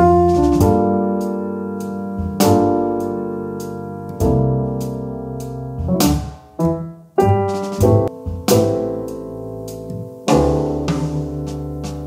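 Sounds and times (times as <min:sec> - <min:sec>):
piano playing slow chords: 0:00.0 - 0:12.0.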